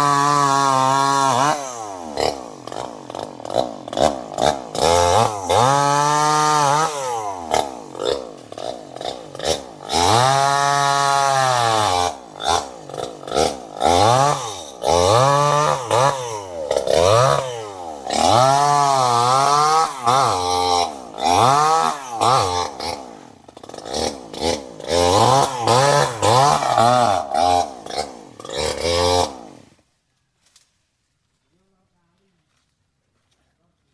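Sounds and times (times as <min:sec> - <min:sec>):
chainsaw engine revving: 0:00.0 - 0:29.8.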